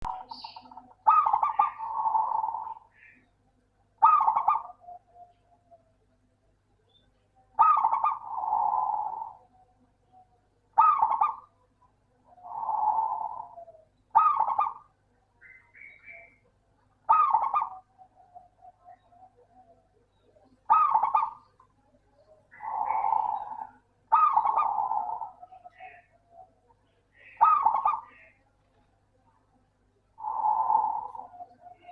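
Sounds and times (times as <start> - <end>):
dove cooing: 0.0 - 3.3, 4.0 - 6.3, 6.9 - 28.8, 30.2 - 31.9.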